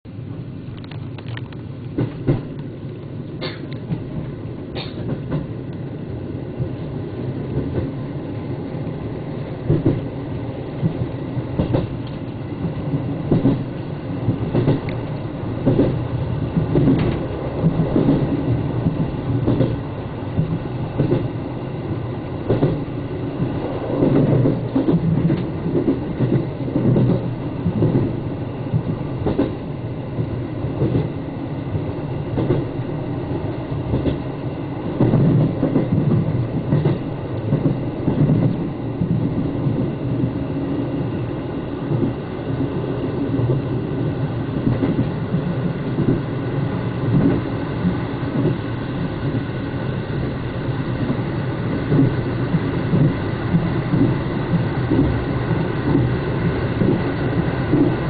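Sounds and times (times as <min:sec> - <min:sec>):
train cabin rumble: 0:00.1 - 0:58.0.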